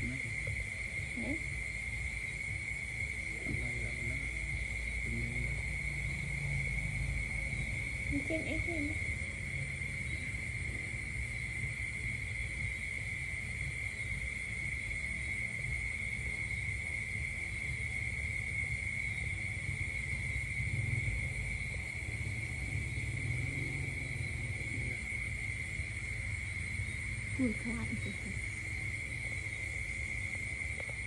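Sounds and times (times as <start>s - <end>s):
high-pitched insect trill: 0.0s - 31.0s
low rumble: 0.0s - 31.0s.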